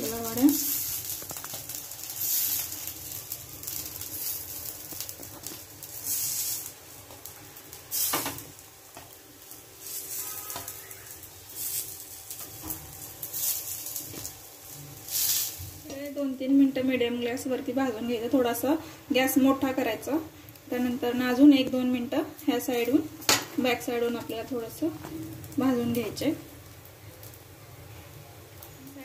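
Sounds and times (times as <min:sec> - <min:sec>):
patties sizzling in hot oil: 0:00.0 - 0:29.0.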